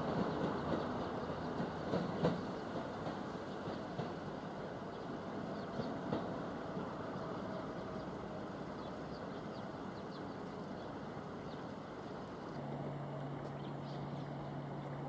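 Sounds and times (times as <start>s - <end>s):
distant train rumbling: 0.0s - 15.0s.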